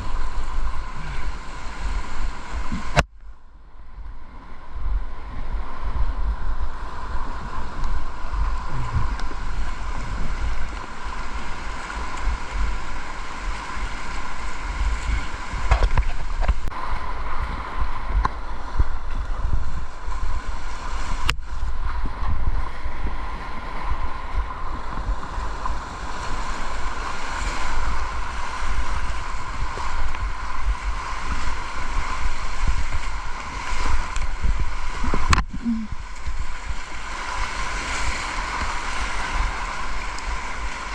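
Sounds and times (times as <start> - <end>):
river water rushing: 0.0 - 40.9
wind buffeting microphone: 0.0 - 40.9.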